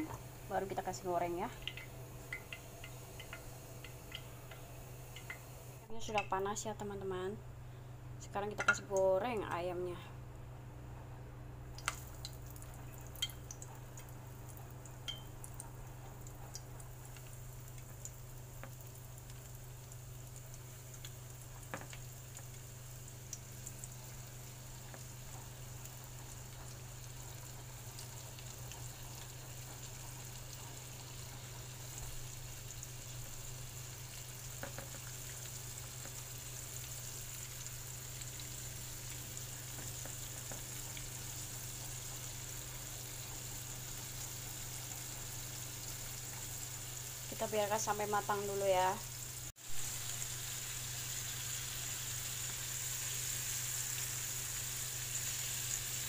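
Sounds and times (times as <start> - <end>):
chicken sizzling in hot oil: 0.0 - 6.2, 11.7 - 56.0.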